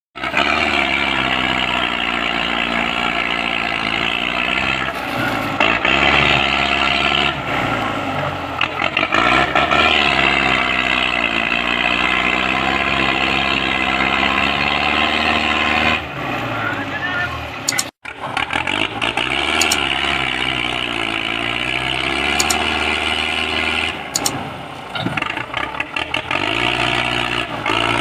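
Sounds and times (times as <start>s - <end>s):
tractor diesel engine labouring: 0.2s - 28.0s.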